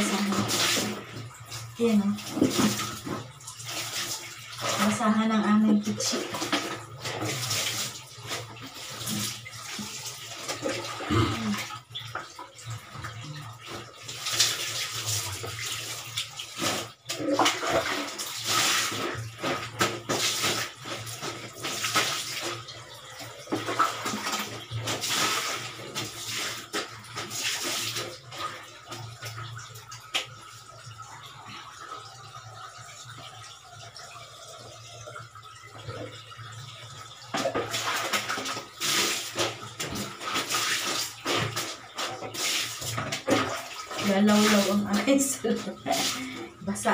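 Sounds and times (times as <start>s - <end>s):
water poured from a dipper: 0.0s - 31.0s, 32.0s - 46.9s
water splashing in basins: 0.0s - 46.9s.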